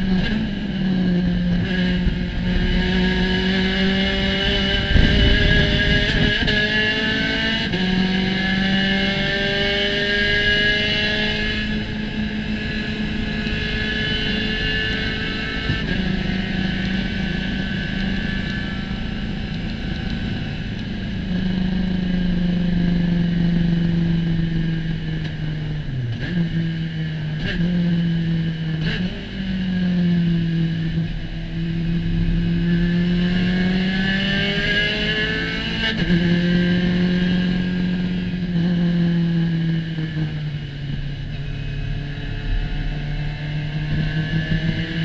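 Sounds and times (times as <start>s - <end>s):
race car engine running hard: 0.0s - 45.0s.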